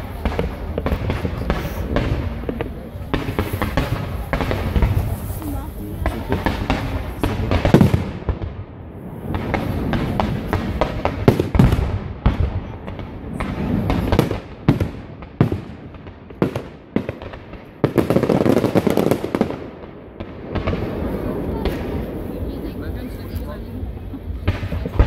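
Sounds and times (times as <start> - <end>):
fireworks bursting with sharp bangs: 0.0 - 25.0.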